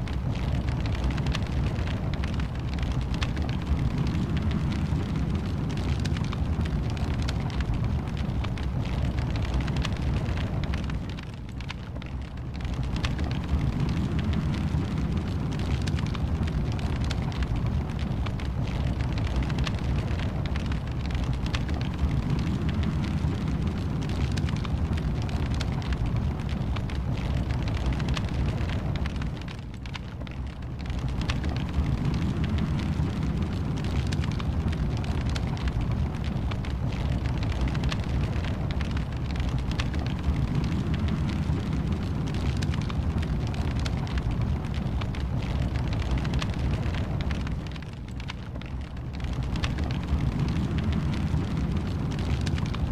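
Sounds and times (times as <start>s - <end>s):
low rumble of flames: 0.0s - 52.9s
wood fire crackling: 0.0s - 52.9s.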